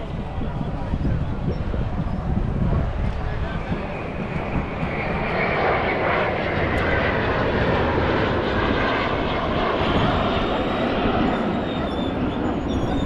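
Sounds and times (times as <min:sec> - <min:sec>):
airplane engine drone: 0:00.0 - 0:13.0.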